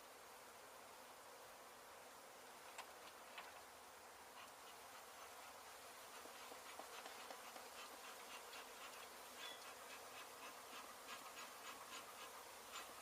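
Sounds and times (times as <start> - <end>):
honey bees buzzing: 2.2 - 13.0.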